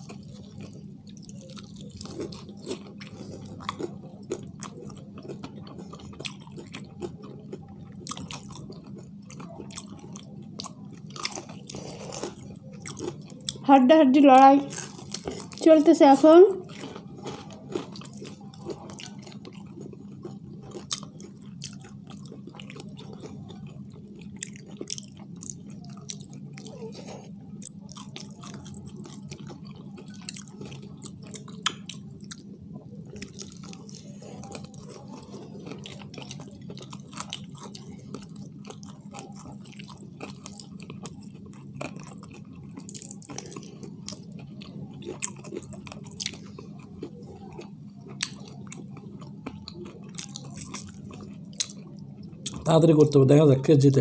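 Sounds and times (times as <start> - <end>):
people chewing fried chicken: 0.0 - 54.0
steady low hum: 0.0 - 54.0.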